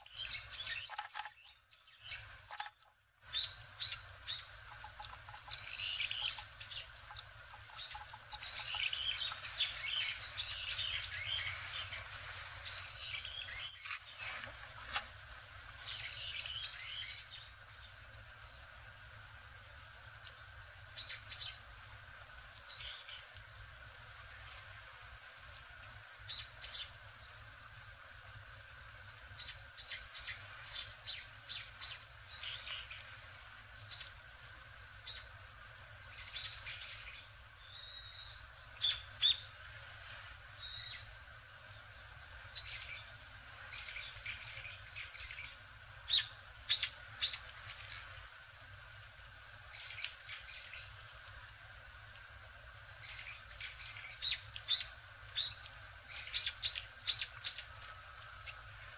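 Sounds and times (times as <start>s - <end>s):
songbirds chirping: 0.0s - 39.6s, 40.4s - 58.9s.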